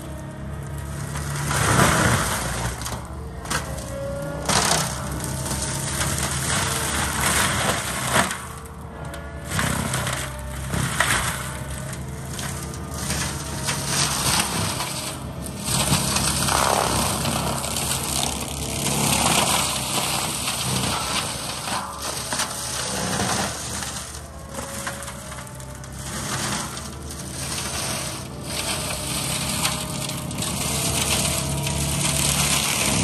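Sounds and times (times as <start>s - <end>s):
loader engine running: 0.0s - 33.0s.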